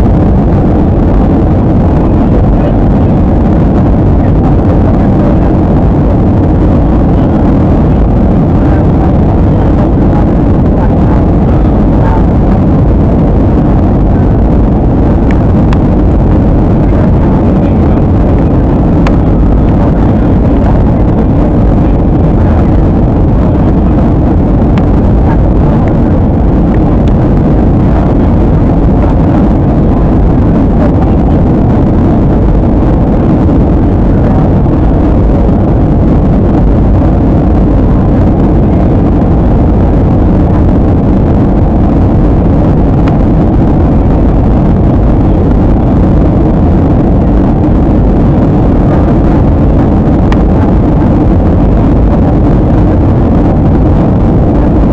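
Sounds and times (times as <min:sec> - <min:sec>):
airliner cabin roar: 0:00.0 - 0:54.9.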